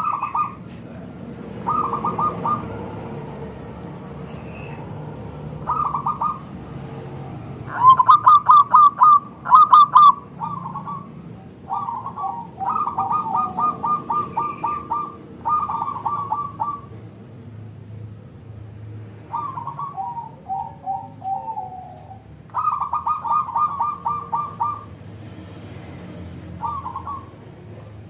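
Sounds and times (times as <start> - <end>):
dove cooing: 0.0 - 17.2, 19.2 - 25.0, 25.9 - 28.0.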